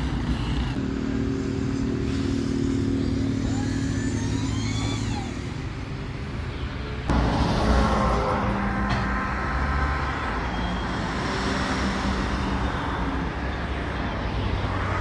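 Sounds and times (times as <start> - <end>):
vehicle engine: 0.0 - 15.0.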